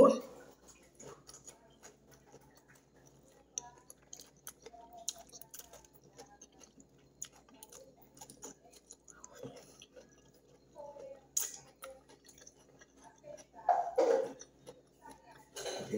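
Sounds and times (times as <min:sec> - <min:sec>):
chewing cabbage salad: 0:00.0 - 0:15.9.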